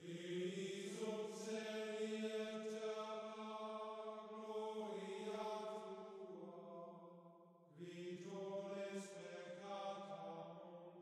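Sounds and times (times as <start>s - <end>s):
sustained chant-like tones: 0.0s - 7.0s, 7.7s - 11.0s.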